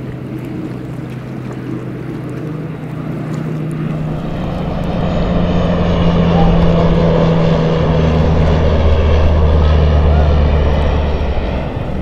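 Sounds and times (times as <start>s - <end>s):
turboprop planes droning: 0.0s - 12.0s.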